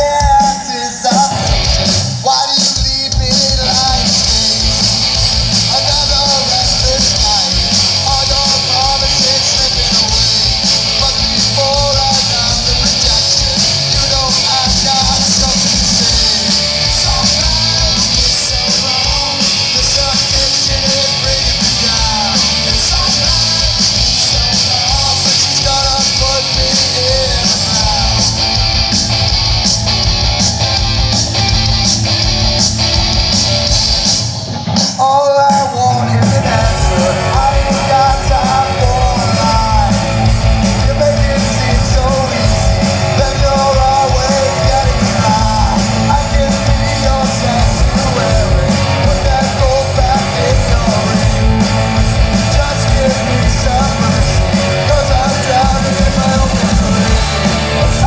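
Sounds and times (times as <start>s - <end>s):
man singing: 0.0s - 28.7s, 34.8s - 58.0s
live rock band playing: 0.0s - 58.0s.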